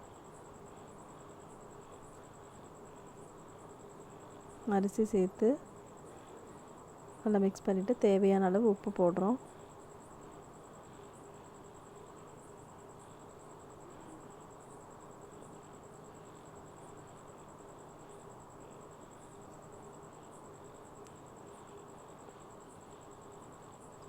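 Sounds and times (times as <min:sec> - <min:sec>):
low background hiss: 0:00.0 - 0:24.0.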